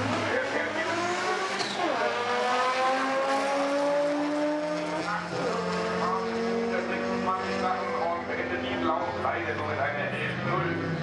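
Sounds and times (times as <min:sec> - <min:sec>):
drag racing car engine: 0:00.0 - 0:11.0.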